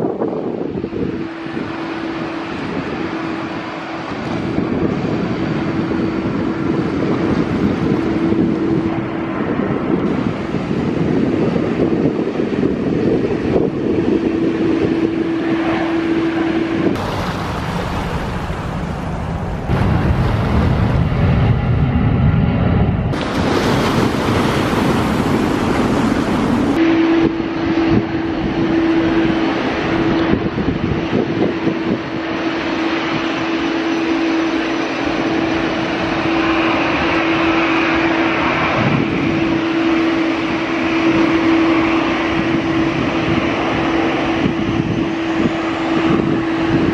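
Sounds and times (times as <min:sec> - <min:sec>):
jet airliner engines: 0:00.0 - 0:46.9
wind buffeting microphone: 0:00.0 - 0:46.9.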